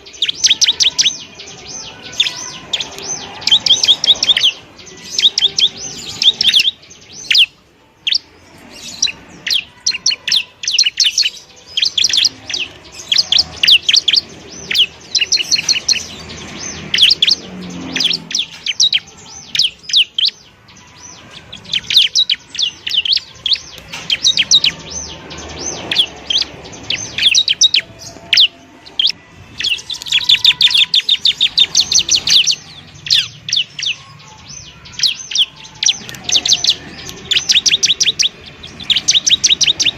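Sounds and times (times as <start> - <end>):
bird singing rapid high chirps: 0.0 - 39.9.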